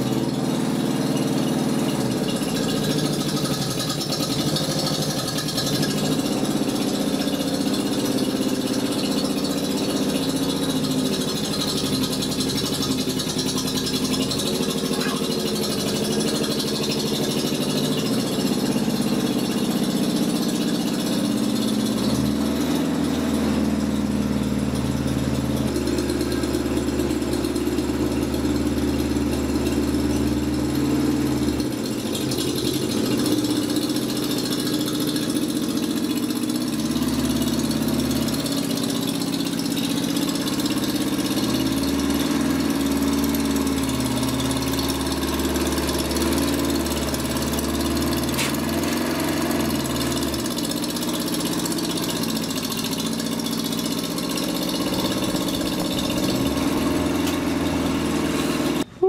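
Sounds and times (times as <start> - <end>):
forklift engine idling: 0.0 - 59.0.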